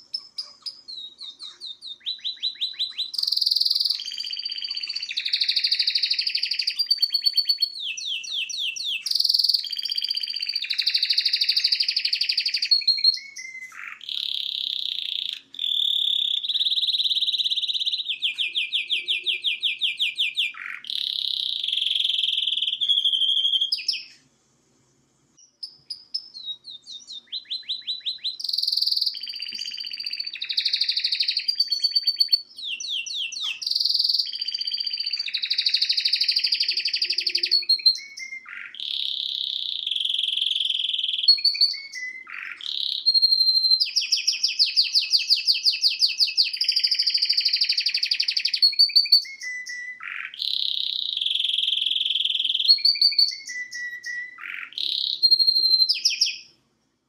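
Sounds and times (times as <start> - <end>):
canary singing trills: 0.0 - 24.3, 24.9 - 56.6.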